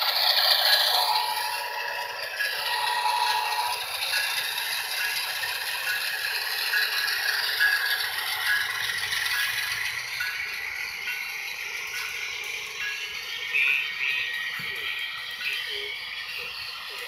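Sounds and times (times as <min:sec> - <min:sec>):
model train rattling on track: 0:00.0 - 0:17.0.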